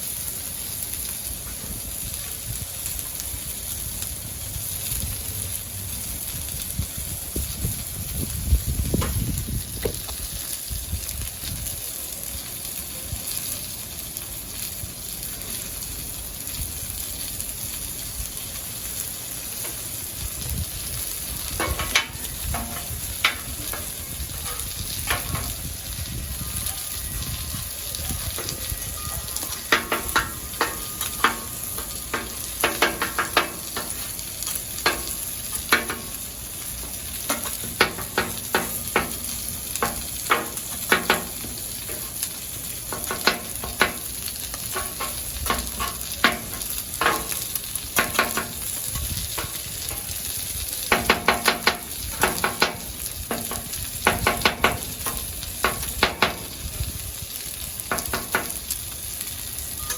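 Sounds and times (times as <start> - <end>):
food sizzling on griddle: 0.0 - 59.9.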